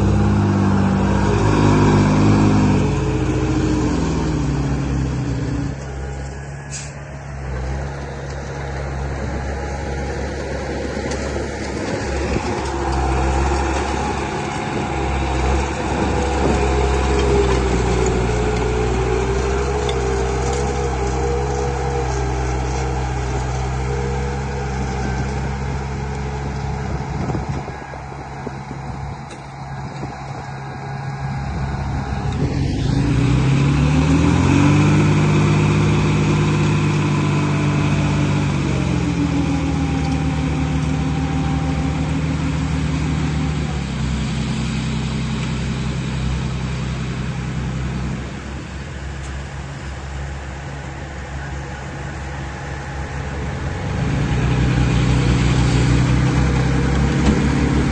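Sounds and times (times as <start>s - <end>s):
earthmoving machine engine: 0.0s - 57.9s.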